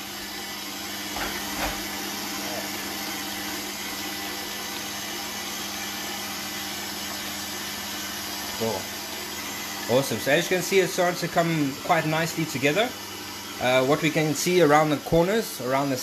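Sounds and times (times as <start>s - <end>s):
stand mixer motor running: 0.0s - 16.0s.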